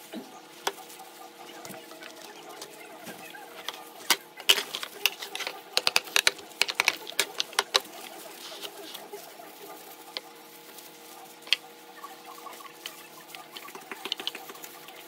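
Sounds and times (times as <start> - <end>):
plastic glove crinkling: 0.0 - 15.0
fruit fibres tearing and crackling: 1.6 - 15.0.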